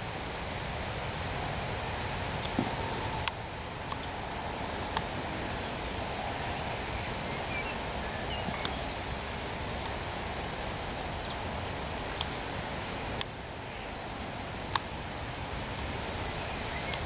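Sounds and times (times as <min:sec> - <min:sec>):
wind through grass and leaves: 0:00.0 - 0:17.0.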